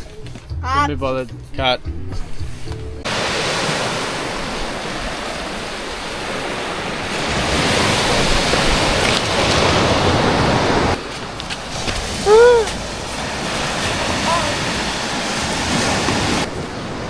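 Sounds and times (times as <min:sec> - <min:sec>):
ocean waves breaking on beach: 0:03.0 - 0:17.0.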